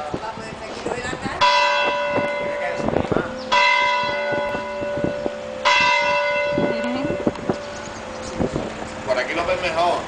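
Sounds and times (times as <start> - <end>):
church bell ringing: 1.4 - 10.0.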